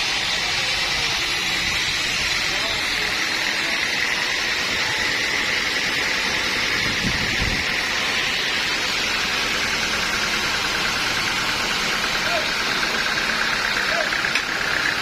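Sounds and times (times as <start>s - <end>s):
sawmill machinery running: 0.0s - 15.0s.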